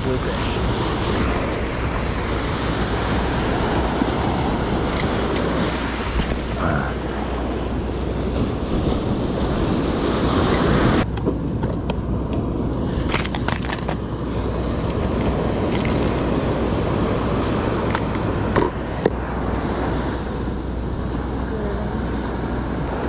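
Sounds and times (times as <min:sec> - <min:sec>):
surf washing: 0:00.0 - 0:23.0
wind rumble on microphone: 0:00.0 - 0:23.0.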